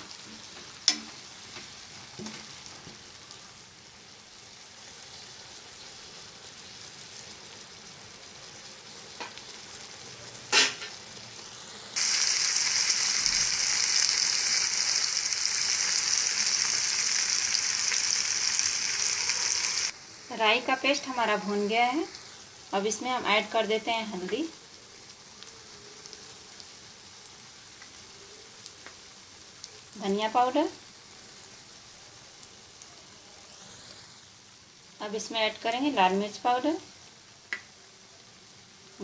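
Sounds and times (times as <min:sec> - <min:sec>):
paste sizzling in hot oil: 0:00.0 - 0:39.0.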